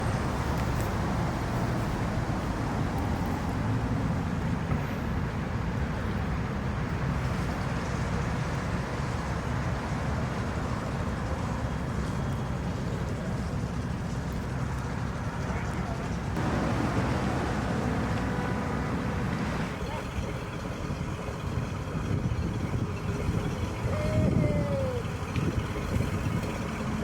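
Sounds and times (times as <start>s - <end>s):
boat engines rumbling: 0.0s - 27.0s.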